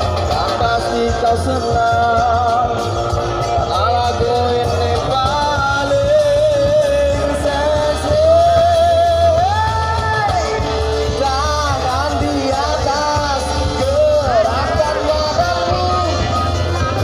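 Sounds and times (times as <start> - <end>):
loud pop music with heavy bass: 0.0 - 17.0.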